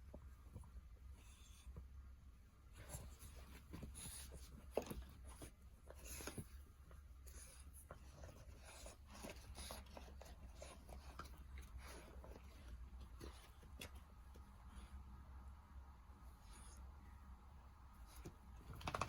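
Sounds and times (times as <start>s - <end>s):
faint scratching and rustling: 0.0s - 19.0s
low steady hum: 0.0s - 19.0s.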